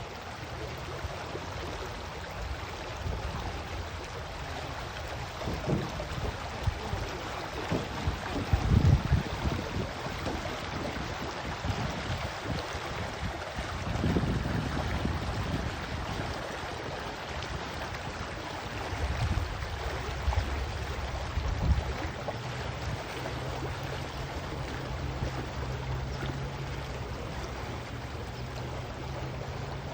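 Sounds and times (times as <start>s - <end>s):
running water rushing: 0.0s - 29.9s.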